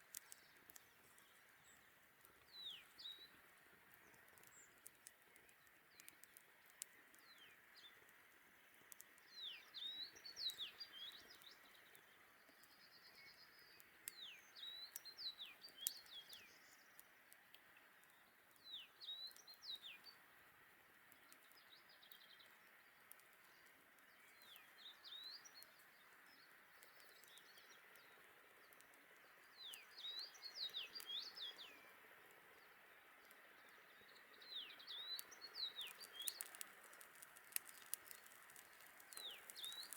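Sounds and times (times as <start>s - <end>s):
faint steady hiss: 0.0s - 39.9s
songbird singing: 0.0s - 39.9s.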